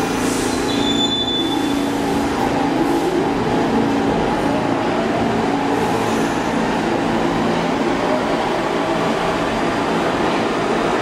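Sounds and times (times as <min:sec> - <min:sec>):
subway train running: 0:00.0 - 0:11.0.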